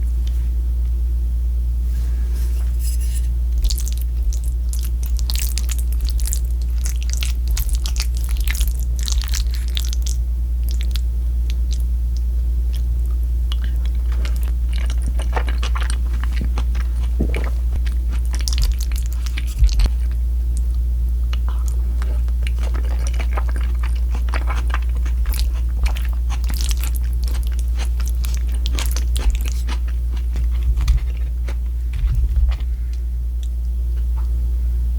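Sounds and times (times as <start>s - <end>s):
steady low hum: 0.0s - 34.9s
crunchy chewing: 2.8s - 34.2s.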